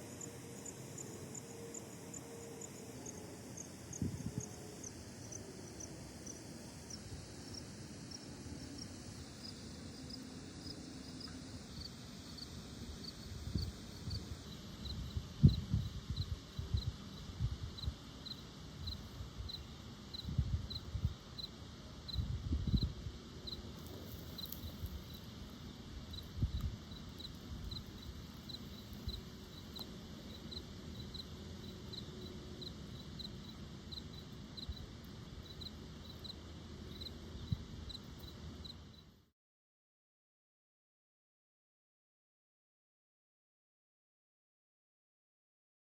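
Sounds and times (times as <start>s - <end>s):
insect chirping: 0.0s - 39.2s.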